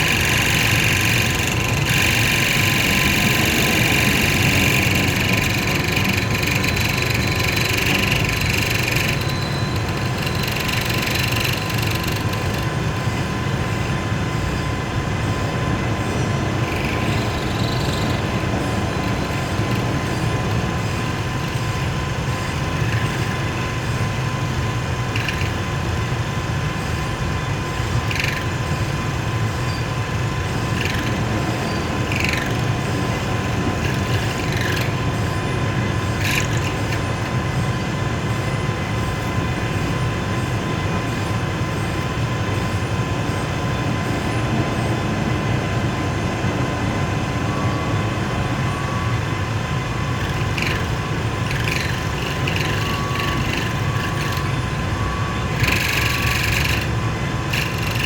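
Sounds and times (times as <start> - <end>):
lathe humming and whining: 0.0 - 58.0.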